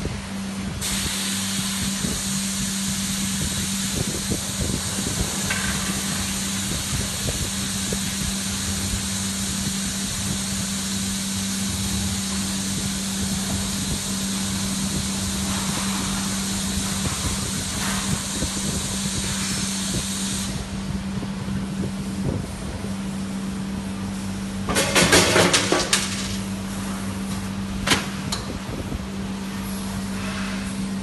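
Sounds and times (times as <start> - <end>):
vending machine hum: 0.0 - 31.0.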